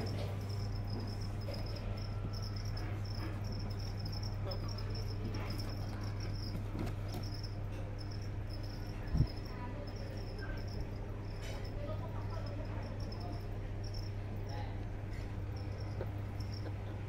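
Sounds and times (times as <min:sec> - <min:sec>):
cricket chirping: 0:00.0 - 0:16.9
low steady hum: 0:00.0 - 0:17.0.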